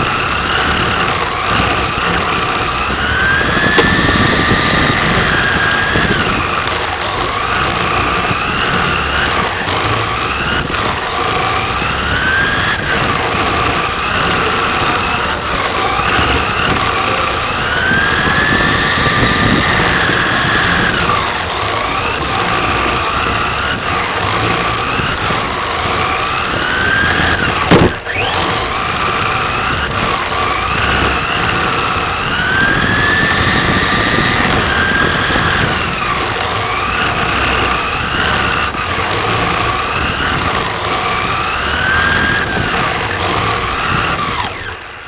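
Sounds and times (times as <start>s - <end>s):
rc car electric motor whining: 0.0s - 45.0s.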